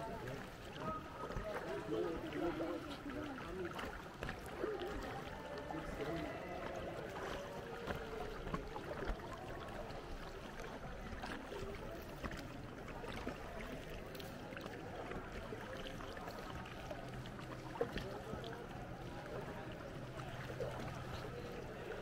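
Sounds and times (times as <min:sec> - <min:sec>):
paddle splashes and knocks: 0:00.0 - 0:22.0
water gurgling around canoe: 0:00.0 - 0:22.0.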